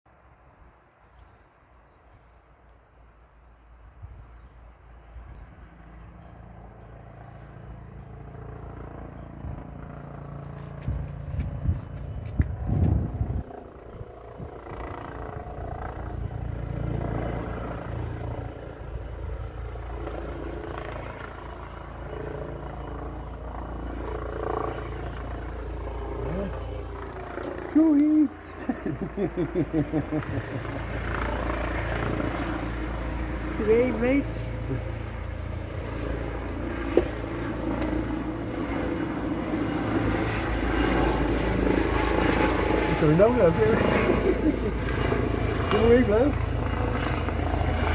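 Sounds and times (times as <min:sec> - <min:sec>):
helicopter drone: 0:02.7 - 0:47.9.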